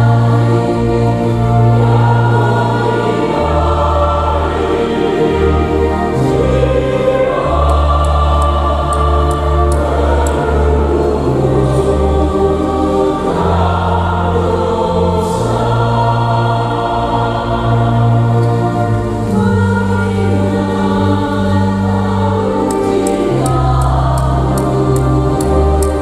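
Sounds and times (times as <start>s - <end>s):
choir singing a hymn: 0.0s - 26.0s
organ bass notes: 0.0s - 26.0s.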